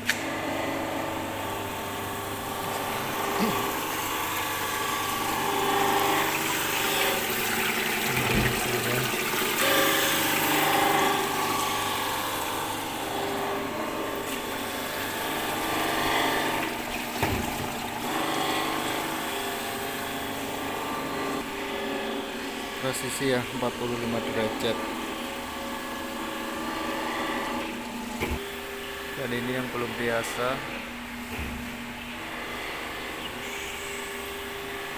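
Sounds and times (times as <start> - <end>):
knife-grinding machine grinding blade: 0.1 - 30.9.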